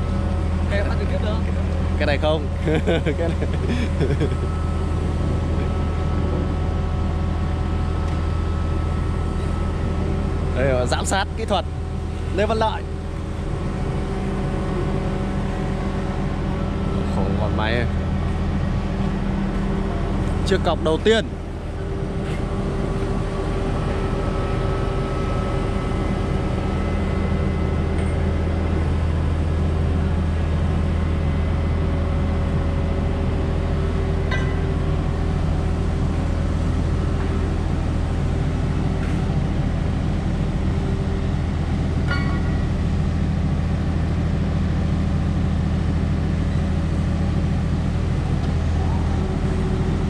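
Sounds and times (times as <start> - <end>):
hydraulic pile press humming: 0.0 - 50.0.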